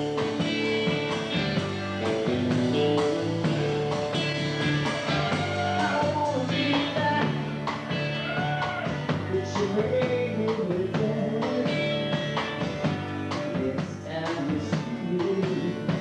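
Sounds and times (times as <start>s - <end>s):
bass line: 0.0s - 16.0s
drums keeping a steady beat: 0.0s - 16.0s
guitars: 0.0s - 16.0s.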